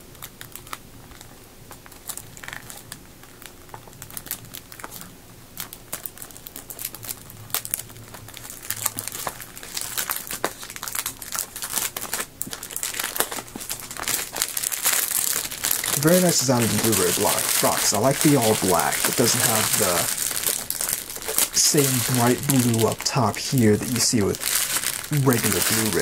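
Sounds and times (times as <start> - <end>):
plastic shrink wrap crinkling: 0.0 - 26.0.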